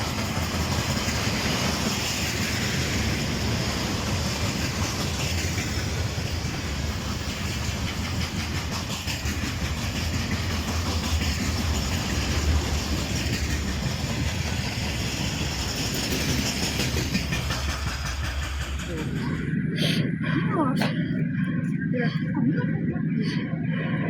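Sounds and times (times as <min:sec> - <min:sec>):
train wheels clattering over rail joints: 0:00.0 - 0:23.5
train rolling rumble: 0:00.0 - 0:24.0.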